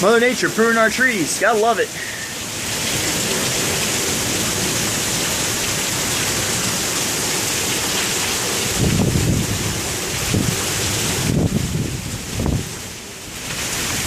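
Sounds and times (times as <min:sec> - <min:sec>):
heavy rain and wind: 0:00.0 - 0:14.0.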